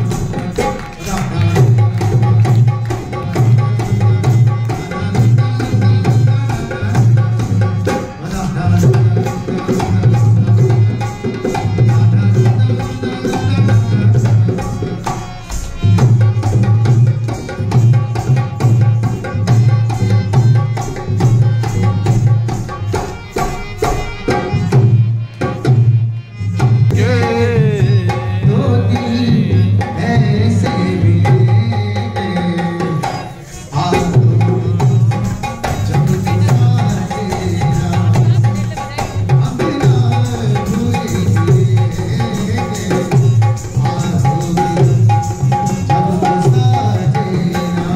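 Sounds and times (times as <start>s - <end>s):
man singing: 0.0s - 22.1s, 26.5s - 47.9s
hand drum rhythm: 0.0s - 47.9s
harmonium tones: 0.0s - 47.9s.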